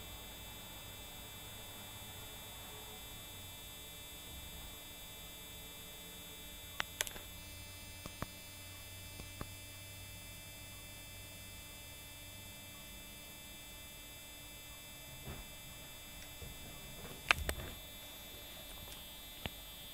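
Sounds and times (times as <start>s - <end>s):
faint low electrical hum: 0.0s - 19.9s.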